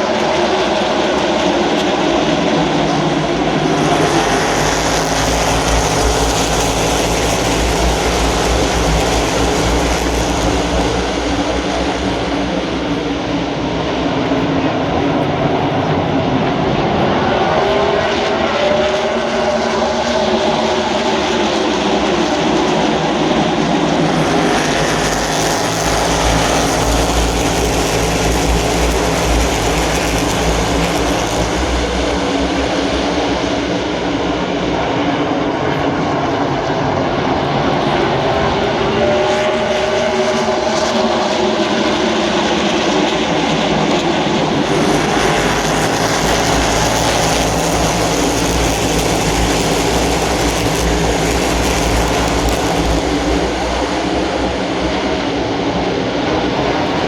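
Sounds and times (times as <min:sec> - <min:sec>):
race car engines roaring: 0:00.0 - 0:57.0.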